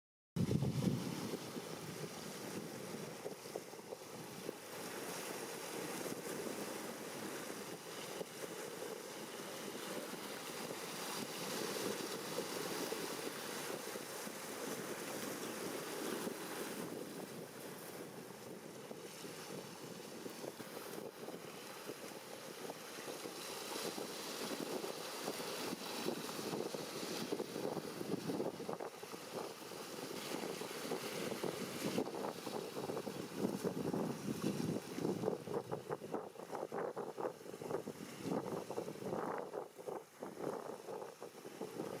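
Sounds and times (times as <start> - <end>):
wind on microphone: 0.4 - 42.0.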